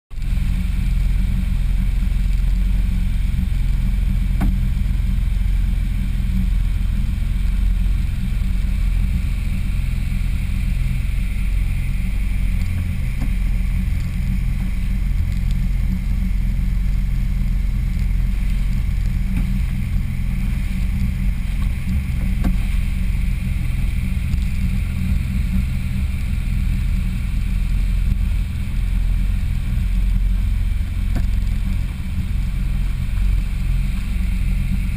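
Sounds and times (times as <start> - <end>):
jet ski engine rumble: 0.1 - 34.9
water rushing against hull: 0.2 - 34.9.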